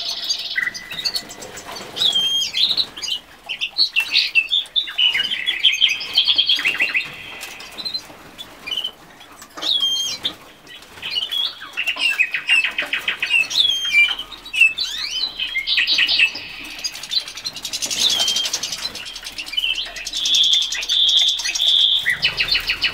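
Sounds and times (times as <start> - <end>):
finches chirping and trilling: 0.0 - 22.9.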